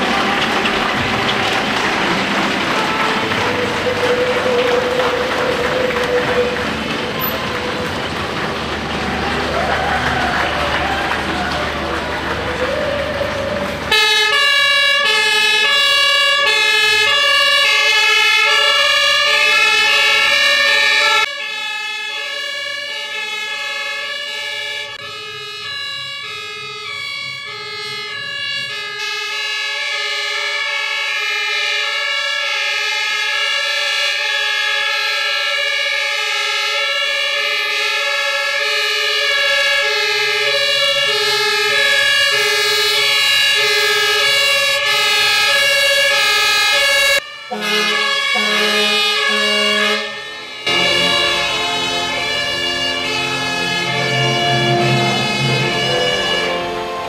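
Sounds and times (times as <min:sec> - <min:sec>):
fire engine two-tone siren: 0:00.0 - 0:57.0.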